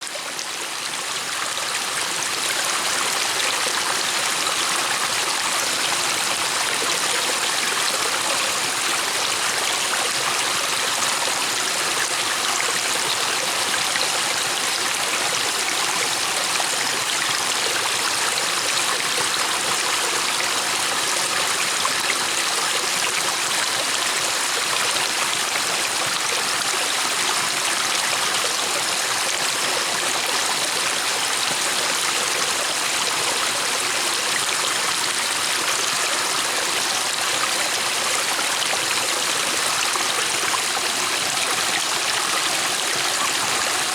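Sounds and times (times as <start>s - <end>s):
river flowing over stones: 0.0s - 43.9s.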